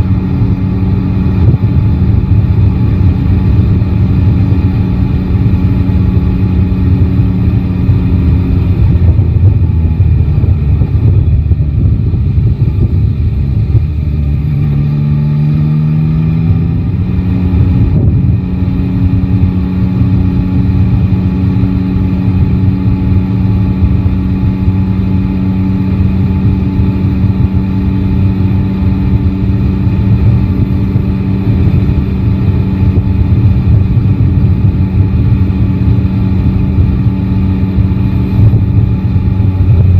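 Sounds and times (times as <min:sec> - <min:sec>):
motorcycle engine running: 0:00.0 - 0:39.9
wind and road rumble: 0:00.0 - 0:39.9.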